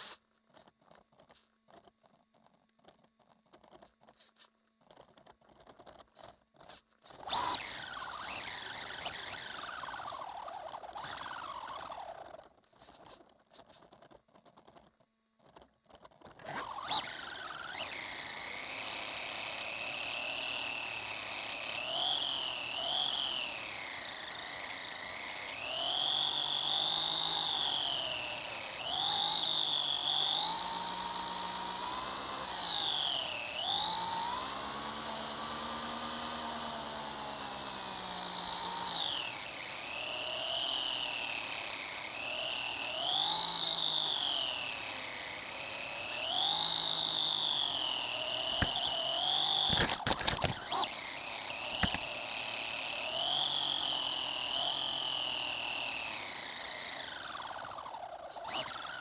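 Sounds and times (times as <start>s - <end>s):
rc car motor whining: 0.0s - 59.0s.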